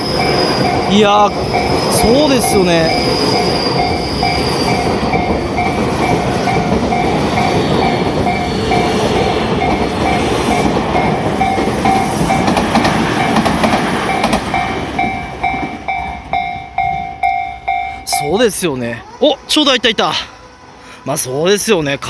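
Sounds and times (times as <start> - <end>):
wheels clacking over rail joints: 0.0 - 18.6
crossing warning bell dinging: 0.0 - 22.0
train rumbling past: 0.0 - 22.0.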